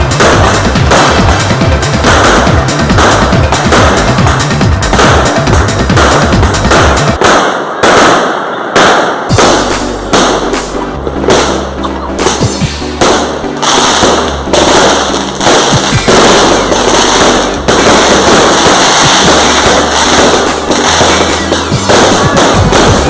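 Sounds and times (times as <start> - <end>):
loud music with heavy bass: 0.0 - 7.3, 8.8 - 23.0
fireworks crackling and banging: 0.0 - 23.0.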